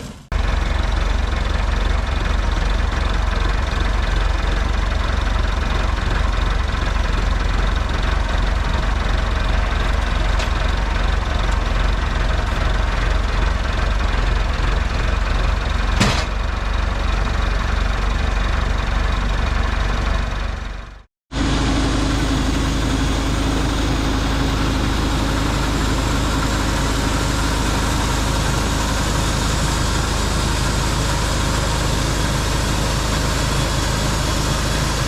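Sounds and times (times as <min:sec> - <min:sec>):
sawmill engine running: 0:00.0 - 0:35.0.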